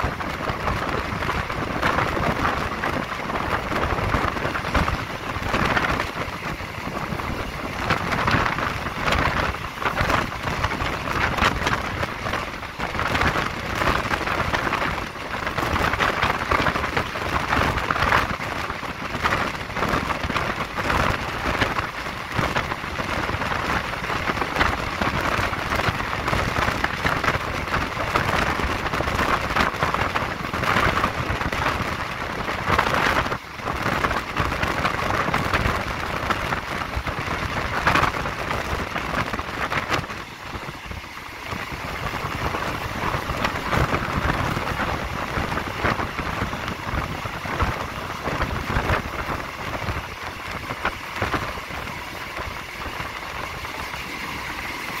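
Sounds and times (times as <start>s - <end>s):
rush of wind: 0.0s - 55.0s
train wheels on rails: 0.0s - 55.0s.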